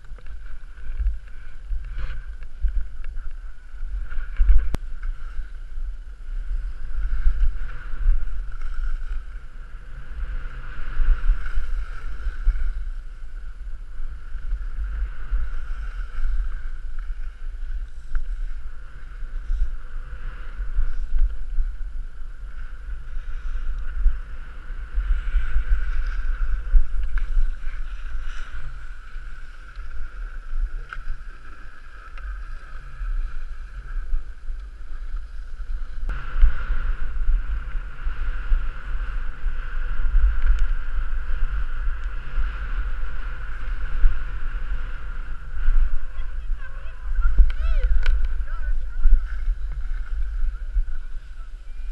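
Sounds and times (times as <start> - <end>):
skis sliding on snow: 0.0 - 51.9
wind buffeting microphone: 0.0 - 51.9.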